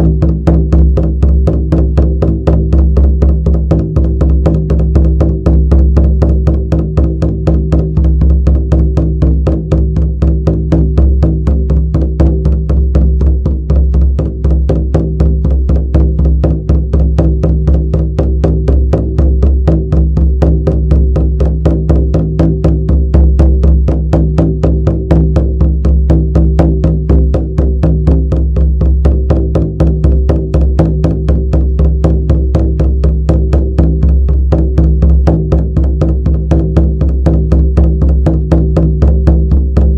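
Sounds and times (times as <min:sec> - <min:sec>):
frame drum beating: 0:00.0 - 0:39.9.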